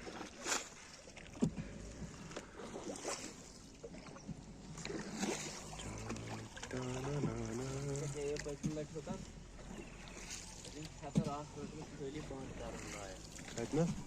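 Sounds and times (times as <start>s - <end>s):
paddle splashes and knocks: 0.0s - 14.0s.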